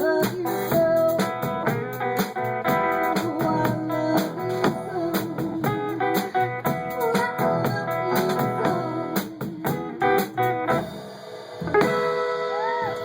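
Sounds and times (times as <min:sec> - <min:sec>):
guitar melody: 0:00.0 - 0:10.8, 0:11.6 - 0:13.0
live band playing swing music: 0:00.0 - 0:13.0.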